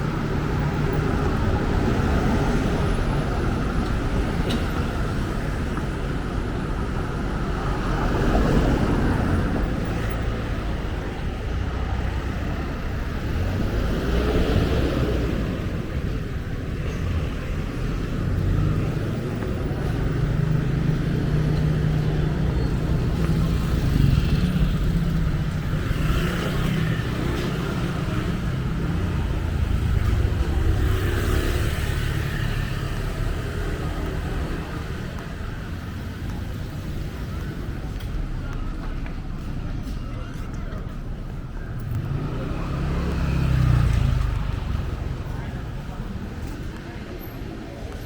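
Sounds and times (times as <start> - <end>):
vehicles passing close by: 0.0 - 48.0.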